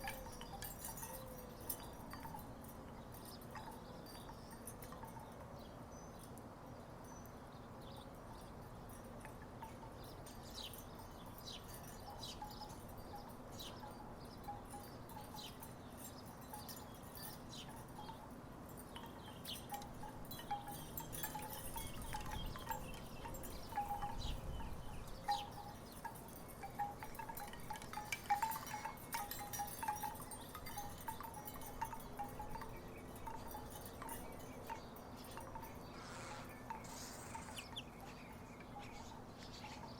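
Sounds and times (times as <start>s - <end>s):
wooden wind chimes clacking: 0.0s - 6.5s, 7.8s - 39.9s.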